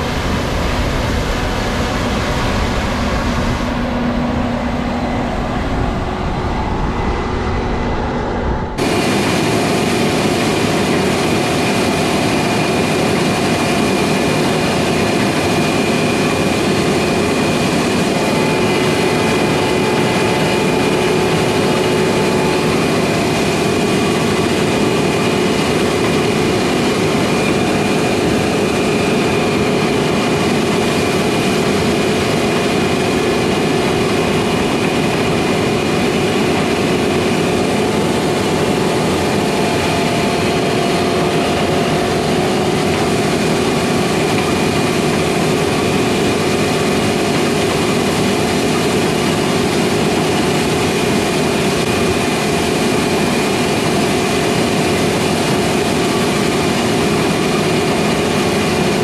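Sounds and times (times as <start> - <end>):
machine hum with whining tones: 0.0 - 59.0.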